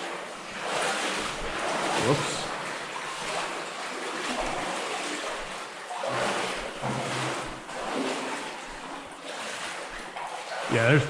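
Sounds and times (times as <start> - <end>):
footsteps sloshing through water: 0.0 - 11.0.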